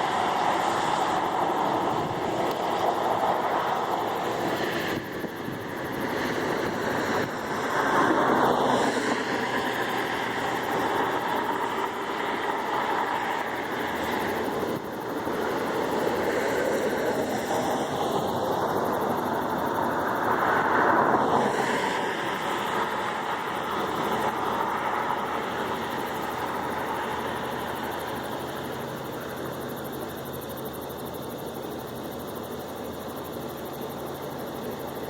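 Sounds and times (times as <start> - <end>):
aircraft passing overhead: 0.0 - 30.8.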